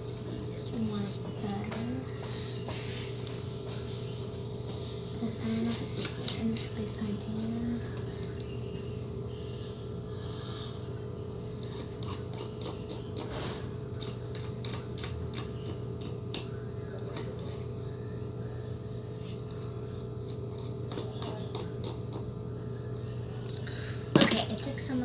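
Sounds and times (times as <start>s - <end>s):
background hum: 0.0s - 25.0s.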